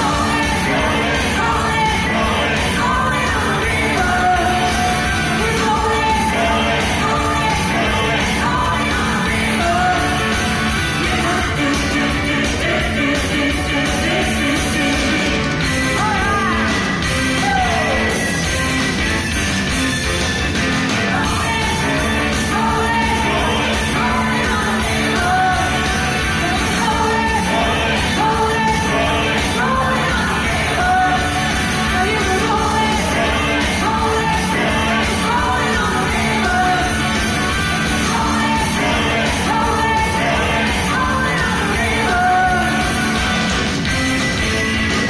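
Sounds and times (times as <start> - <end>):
choir singing pop-rock song: 0.0 - 45.0
rock band playing: 0.0 - 45.0.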